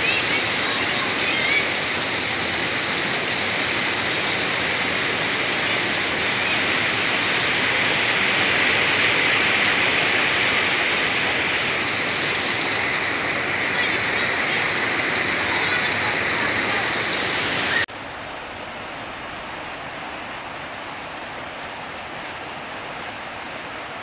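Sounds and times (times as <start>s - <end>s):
heavy rain on roofs: 0.0s - 24.0s.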